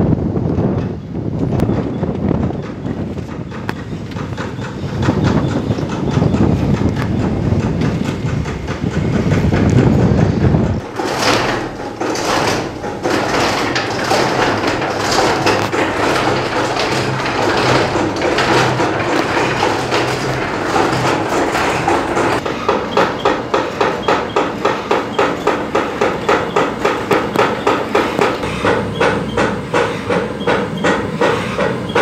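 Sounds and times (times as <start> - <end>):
wooden gears clattering rumble: 0.0 - 32.0
regular knocking: 1.6 - 32.0.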